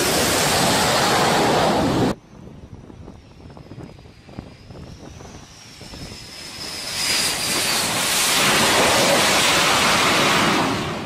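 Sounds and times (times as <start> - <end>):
high falling whine: 0.0 - 11.0
jet engine rushing: 0.0 - 11.0.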